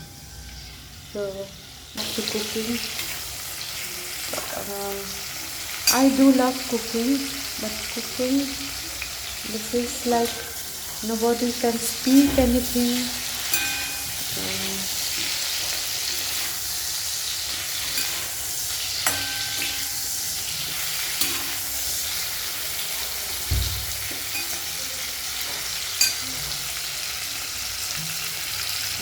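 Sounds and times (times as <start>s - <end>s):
food sizzling in a hot pan: 0.0s - 29.0s.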